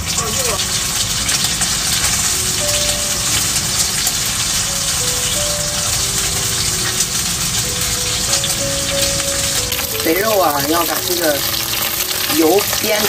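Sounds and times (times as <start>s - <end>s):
pork sizzling in a frying pan: 0.0s - 13.0s.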